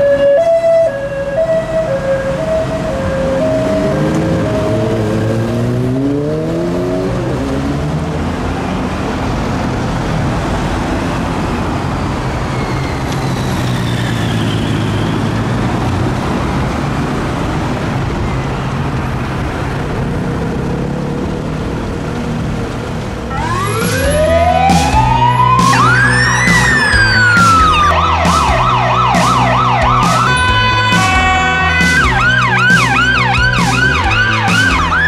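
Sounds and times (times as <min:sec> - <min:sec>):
road traffic: 0:00.0 - 0:35.0
engine pulling away: 0:01.1 - 0:08.6, 0:10.6 - 0:35.0.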